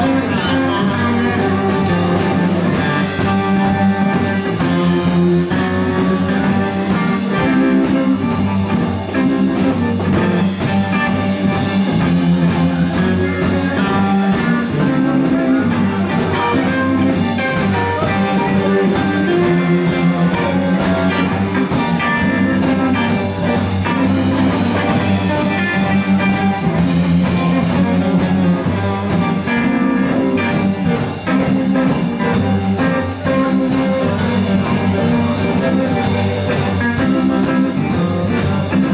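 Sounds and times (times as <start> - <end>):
blues band playing: 0.0 - 38.9
drum kit: 0.0 - 38.9
electric guitar: 0.0 - 38.9.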